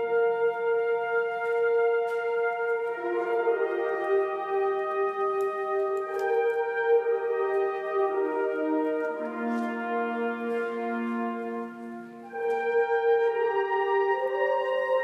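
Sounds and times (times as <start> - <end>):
symphony orchestra with brass chords: 0.0 - 15.0.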